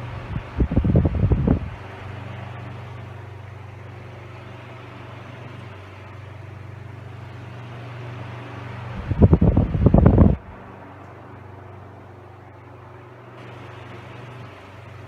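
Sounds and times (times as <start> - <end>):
air rushing from fan blades: 0.0 - 15.0
fan motor humming: 0.0 - 15.0.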